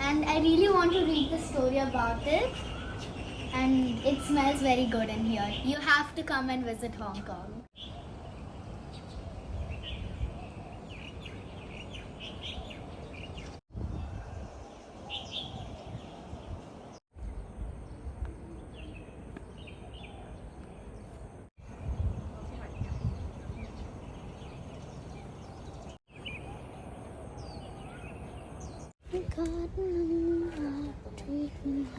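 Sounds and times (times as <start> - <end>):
small birds chirping: 0.2 - 13.6, 14.5 - 31.9.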